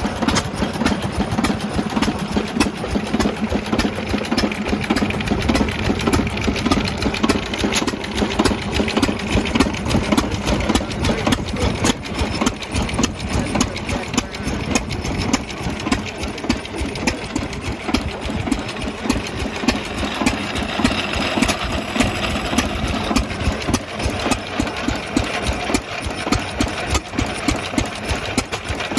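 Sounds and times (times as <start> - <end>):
stationary gas engine running: 0.0 - 28.9.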